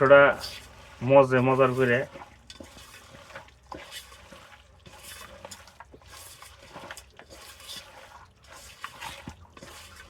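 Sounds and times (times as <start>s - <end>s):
wet squelching of mixing meat: 0.0s - 10.0s.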